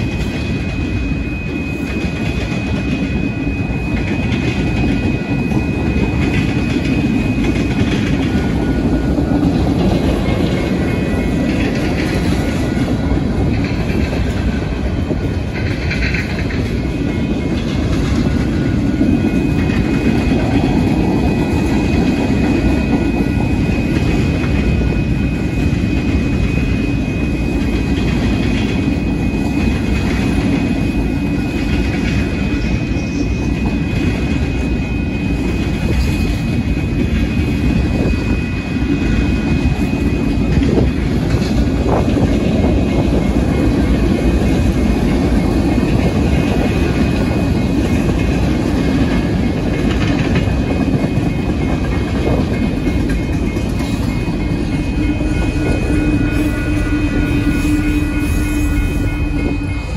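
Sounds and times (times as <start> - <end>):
freight cars rumbling on rails: 0.0 - 59.9
high ringing tone: 0.0 - 59.9
railroad crossing bell ringing: 0.0 - 59.9.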